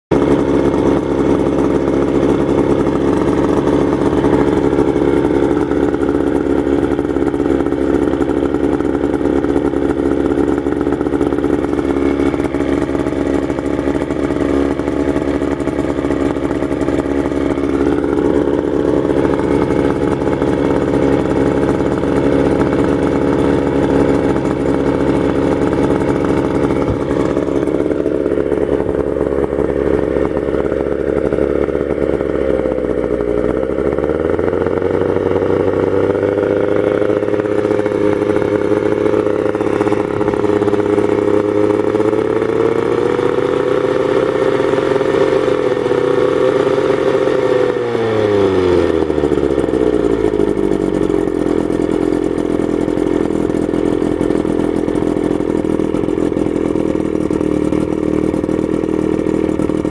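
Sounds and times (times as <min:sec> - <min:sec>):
outboard motor running: 0:00.1 - 0:59.9.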